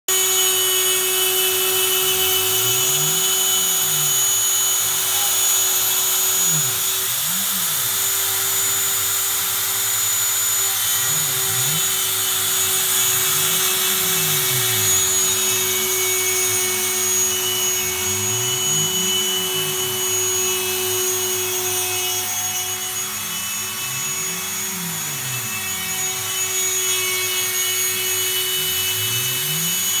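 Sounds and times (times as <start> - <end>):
rotary tool routing wood: 0.1 - 30.0
stepper motors whining: 0.1 - 30.0.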